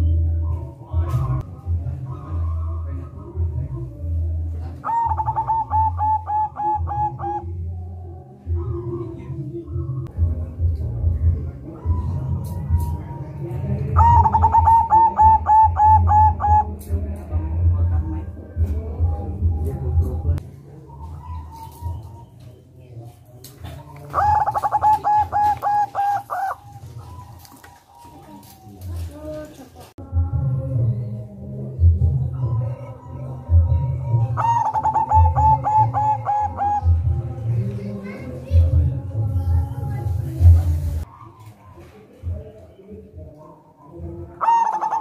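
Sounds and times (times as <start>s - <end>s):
dove cooing: 0.0s - 10.0s, 11.4s - 16.8s, 19.0s - 22.6s, 23.6s - 29.9s, 31.9s - 42.6s, 43.2s - 45.0s.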